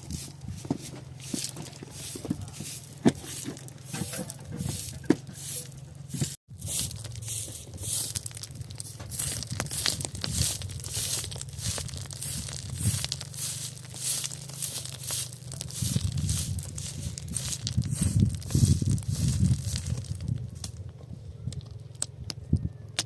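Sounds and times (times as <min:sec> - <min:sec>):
rustling and crinkling handling noise: 0:00.0 - 0:22.8.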